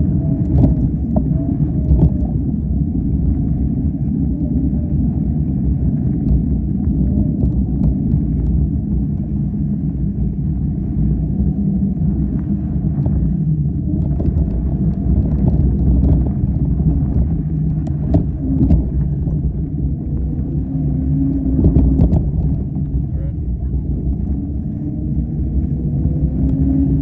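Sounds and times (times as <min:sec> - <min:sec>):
low rumble riding through sand: 0:00.0 - 0:27.0.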